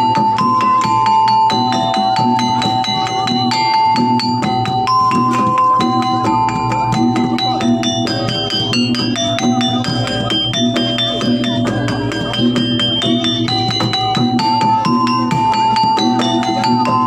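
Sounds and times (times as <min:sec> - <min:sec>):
gamelan metallophones playing: 0:00.0 - 0:17.0.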